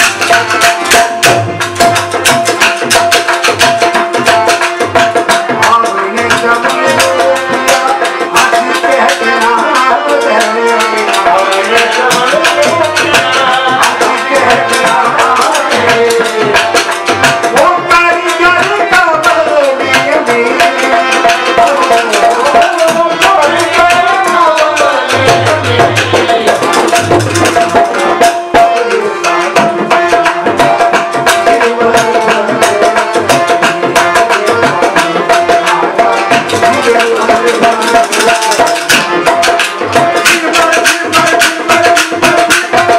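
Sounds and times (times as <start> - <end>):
hand drum: 0.0 - 42.9
harmonium drone: 0.0 - 42.9
man singing: 0.0 - 42.9
rattling hand percussion: 0.0 - 42.9.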